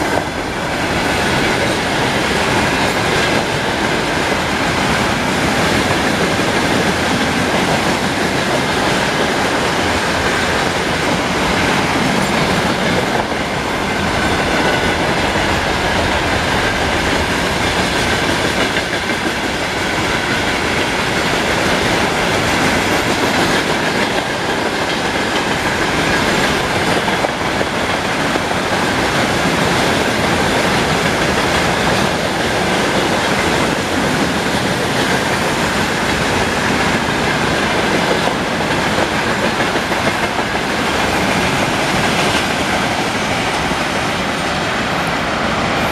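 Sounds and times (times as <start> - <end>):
train wheels clattering over rail joints: 0.0 - 44.5.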